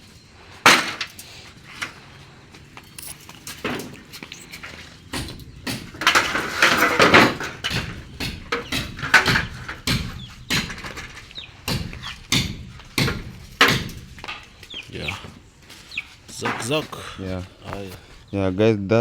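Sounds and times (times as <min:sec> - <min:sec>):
steel frames clanking and scraping: 0:00.6 - 0:18.2.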